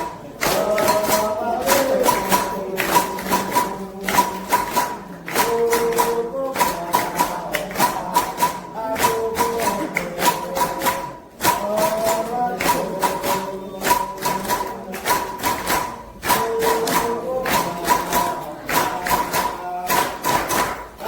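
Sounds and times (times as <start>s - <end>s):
hand drums beating: 0.0s - 21.0s
voices singing a chant: 0.0s - 21.0s.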